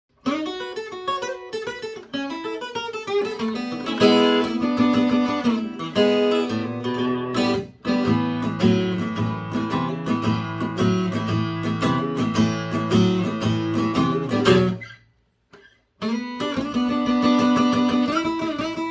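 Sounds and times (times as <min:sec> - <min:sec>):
acoustic guitar: 0:00.1 - 0:18.9.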